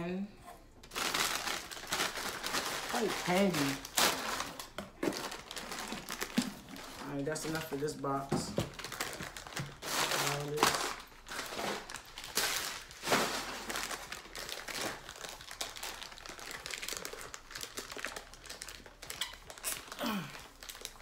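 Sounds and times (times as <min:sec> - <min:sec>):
packing paper crumpling: 0:00.8 - 0:21.0
plastic bag crinkling: 0:00.8 - 0:21.0.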